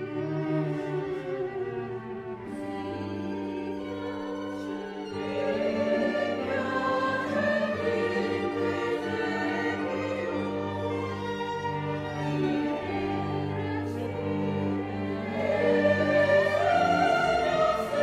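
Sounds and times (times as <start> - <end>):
instrumental accompaniment: 0.0 - 18.0
mixed choir singing: 2.4 - 18.0.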